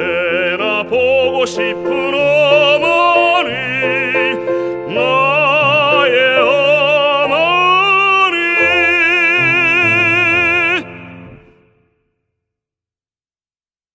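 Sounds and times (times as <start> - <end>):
man singing classical song: 0.0 - 11.7
instrumental accompaniment: 0.0 - 11.8.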